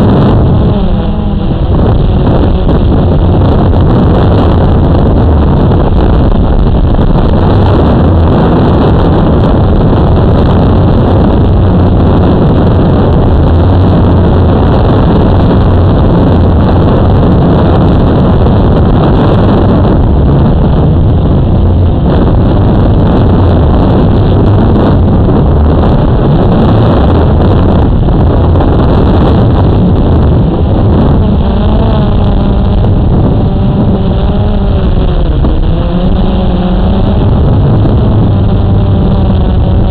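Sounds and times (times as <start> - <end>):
drone motors whirring: 0.0 - 39.9.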